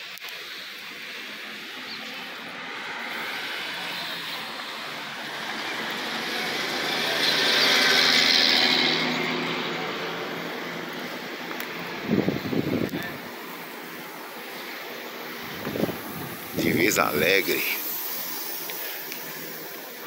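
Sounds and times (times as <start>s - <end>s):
vehicle passing by: 1.2s - 20.0s.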